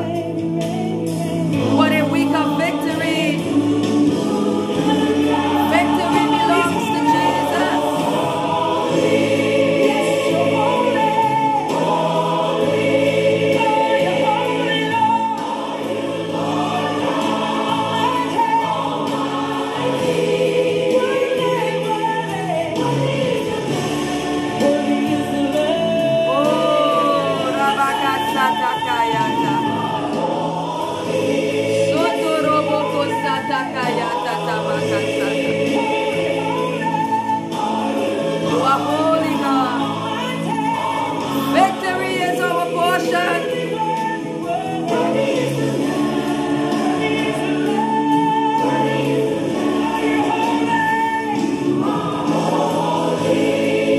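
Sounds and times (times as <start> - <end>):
choir singing gospel music: 0.0 - 53.9.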